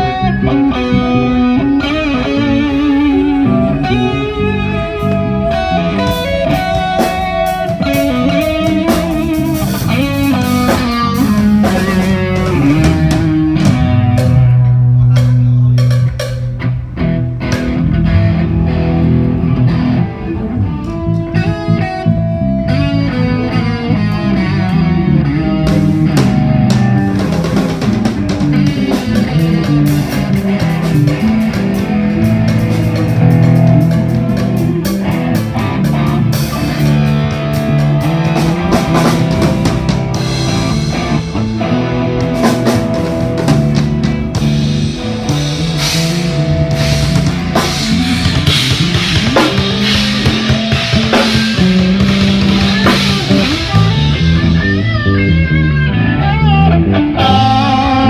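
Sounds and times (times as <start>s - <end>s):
drum kit: 0.0s - 55.9s
bass guitar: 0.0s - 58.0s
electric guitar: 0.0s - 58.0s.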